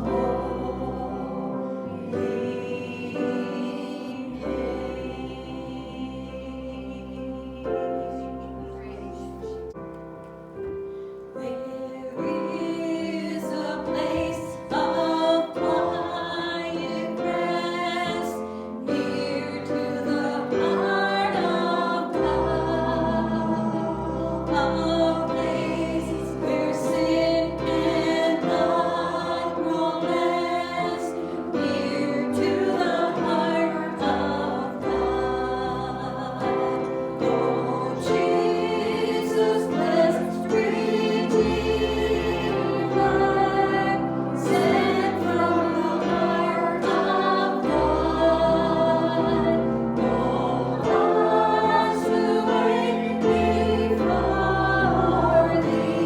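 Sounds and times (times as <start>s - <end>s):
group singing a hymn: 0.0s - 9.8s, 10.7s - 56.0s
musical accompaniment: 0.0s - 56.0s.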